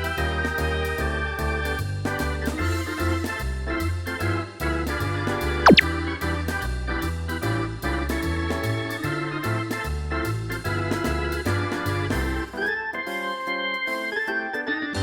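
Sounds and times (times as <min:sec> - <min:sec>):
upbeat keyboard music with bass: 0:00.0 - 0:15.0.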